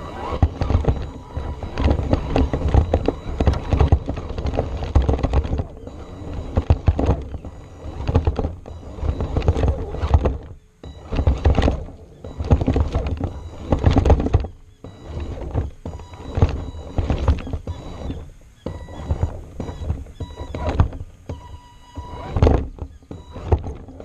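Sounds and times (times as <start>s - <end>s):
faint electric motor whine: 0.0s - 24.0s
knocks and rattles of toy car: 0.0s - 24.0s.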